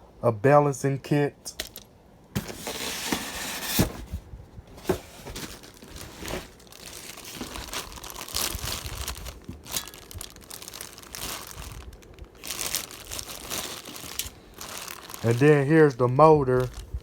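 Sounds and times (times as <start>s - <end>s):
packaging crinkling and rustling: 1.6s - 17.0s.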